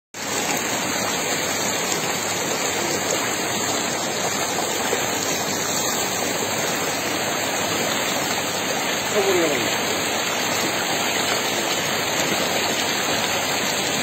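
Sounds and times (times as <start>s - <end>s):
river water rushing over rocks: 0.2s - 14.0s.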